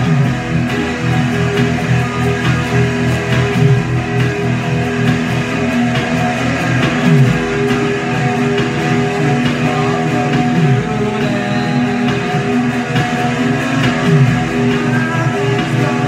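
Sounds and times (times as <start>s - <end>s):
guitar playing: 0.0s - 16.0s
steady droning tones: 0.0s - 16.0s.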